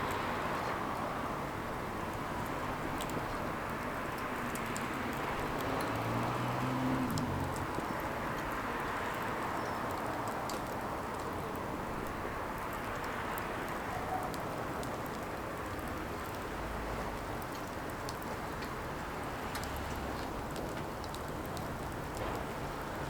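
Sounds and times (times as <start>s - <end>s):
firewood burning: 0.1s - 23.0s
fire crackles and pops: 1.7s - 23.0s.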